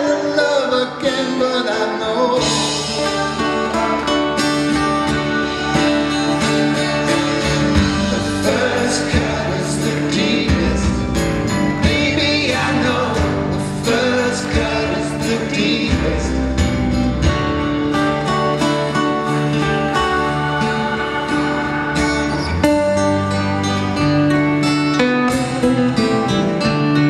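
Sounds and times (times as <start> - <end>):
acoustic guitars strummed: 0.0 - 27.0.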